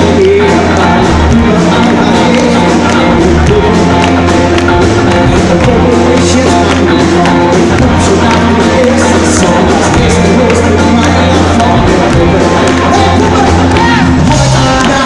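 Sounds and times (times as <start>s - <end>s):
electric guitars: 0.0s - 15.0s
live pop-rock band: 0.0s - 15.0s
man singing: 0.0s - 15.0s.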